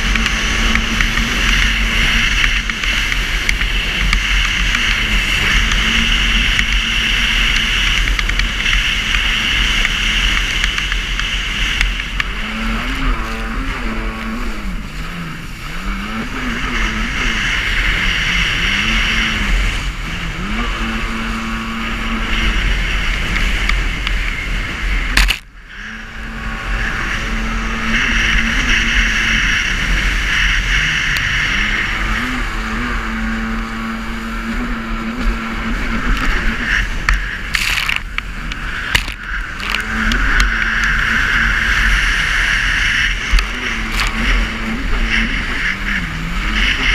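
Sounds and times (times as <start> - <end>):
jet ski engine running: 0.0 - 46.9
water rushing: 0.0 - 46.9
wind on microphone: 0.0 - 46.9.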